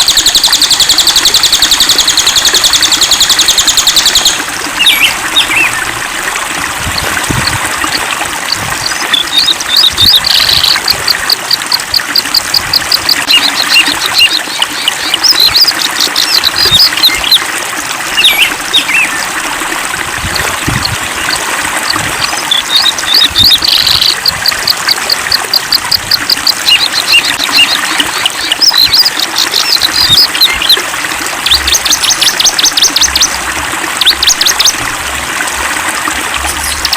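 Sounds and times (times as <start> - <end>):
songbirds singing: 0.0 - 19.6, 20.2 - 34.8
trickling stream: 0.0 - 36.9.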